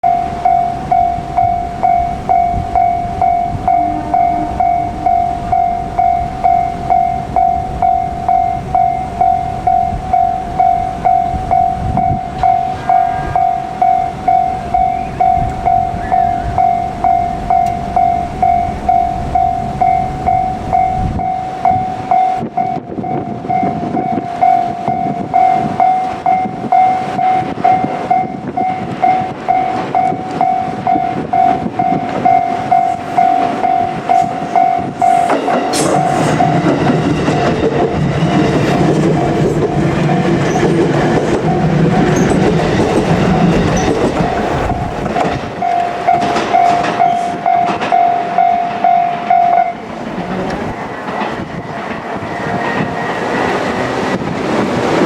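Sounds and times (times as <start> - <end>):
level crossing warning bell: 0.0 - 54.3
electric train rumbling past: 0.0 - 55.0.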